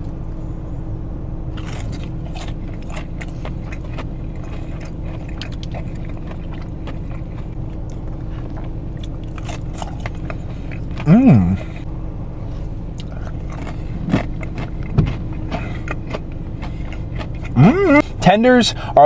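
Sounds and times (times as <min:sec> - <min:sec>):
steady low hum: 0:00.0 - 0:19.0
crunching crispy chicken: 0:01.5 - 0:18.1.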